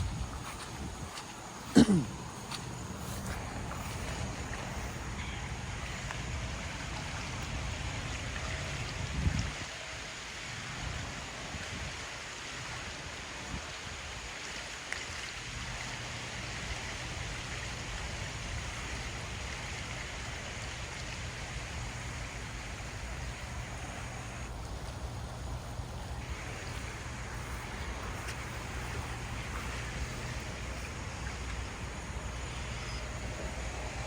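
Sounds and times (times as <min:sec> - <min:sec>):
floodwater rushing: 0:00.0 - 0:34.0
rain: 0:00.0 - 0:34.0.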